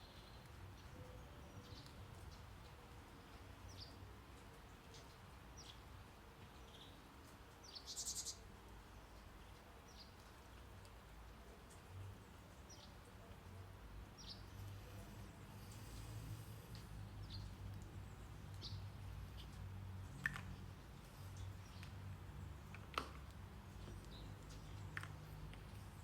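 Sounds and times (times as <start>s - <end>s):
faint birds chirping: 0.0s - 26.0s
low steady hiss: 0.0s - 26.0s.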